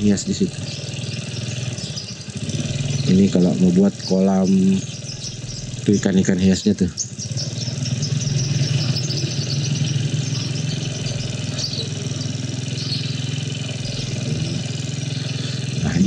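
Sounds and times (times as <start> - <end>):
motor scooter engine running: 0.0 - 16.0.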